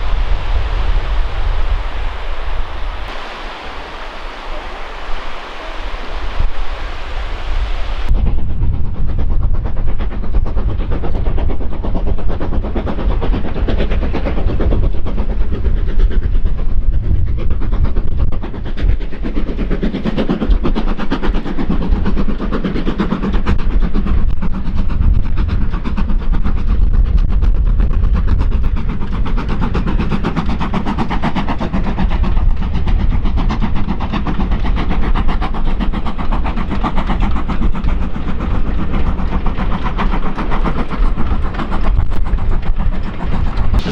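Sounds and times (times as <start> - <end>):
steam train running past: 0.0 - 43.9.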